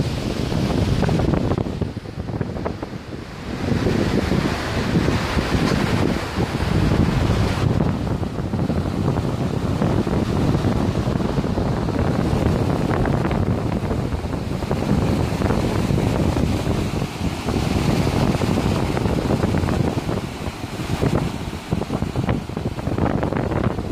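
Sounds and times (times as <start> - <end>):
rushing propeller wake: 0.0 - 23.9
wind buffeting microphone: 0.0 - 23.9.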